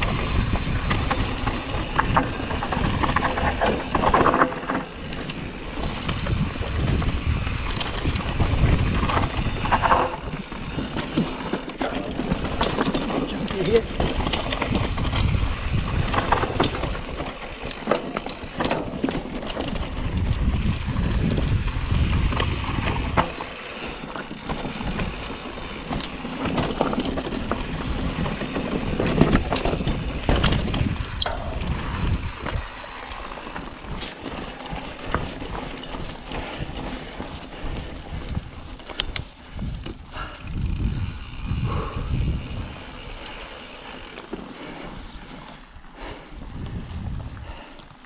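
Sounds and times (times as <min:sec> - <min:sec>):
bike rattling over stones: 0:00.0 - 0:47.7
bike tyres crunching on gravel: 0:00.0 - 0:48.0.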